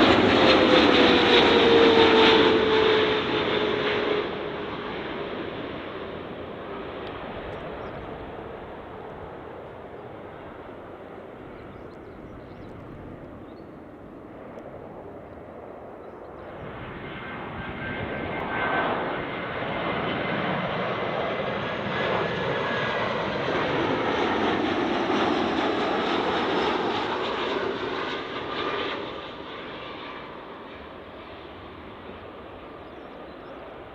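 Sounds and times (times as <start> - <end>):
jet airliner passing overhead: 0.0 - 33.9.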